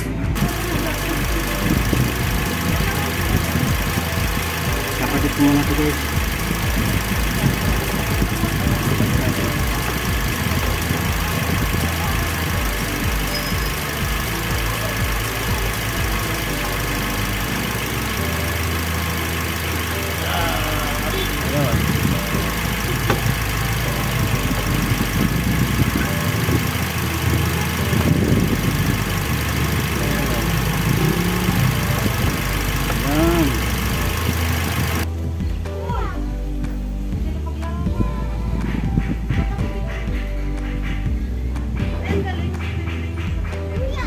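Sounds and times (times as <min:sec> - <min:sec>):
car engine idling: 0:00.0 - 0:35.7.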